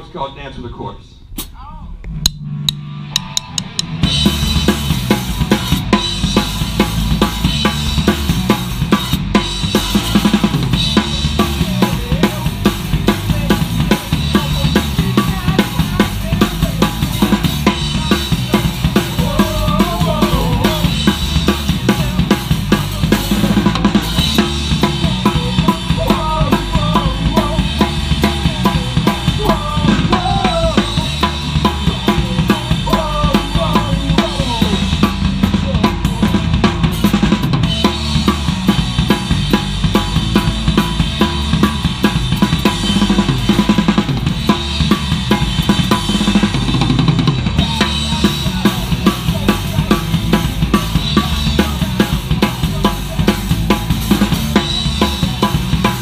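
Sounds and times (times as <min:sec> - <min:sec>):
bass drum and snare hits: 0:01.3 - 0:56.0
punk band playing live: 0:01.3 - 0:56.0.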